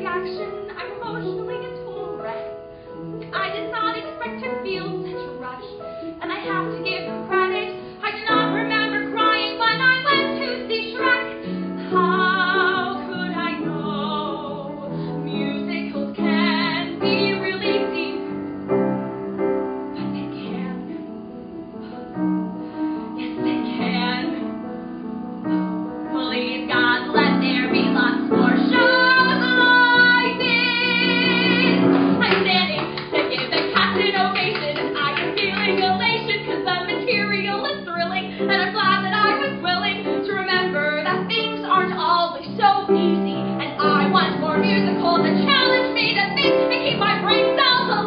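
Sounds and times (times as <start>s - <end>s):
piano accompaniment: 0.0s - 48.0s
woman singing: 3.3s - 18.3s, 20.0s - 21.0s, 23.2s - 24.6s, 26.0s - 48.0s.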